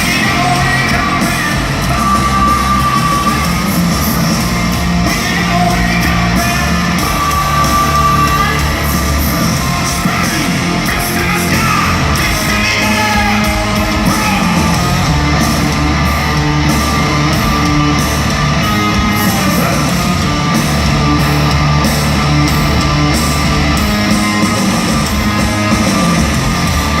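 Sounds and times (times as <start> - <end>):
hard rock band playing live: 0.0 - 27.0.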